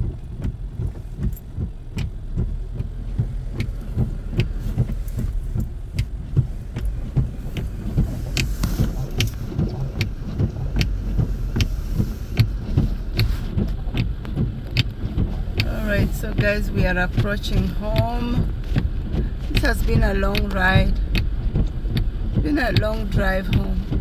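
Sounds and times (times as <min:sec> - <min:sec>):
engine and road rumble: 0:00.0 - 0:24.0
sharp clicks: 0:00.2 - 0:24.0.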